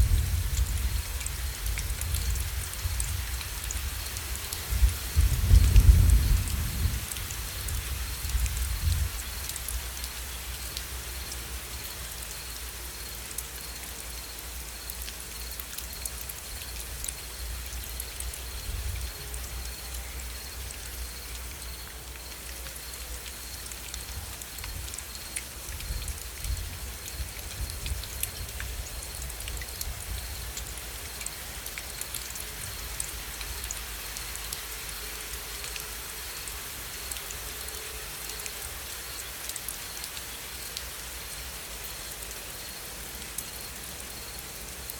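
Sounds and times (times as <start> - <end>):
rain drops ticking on a surface: 0.0 - 44.9.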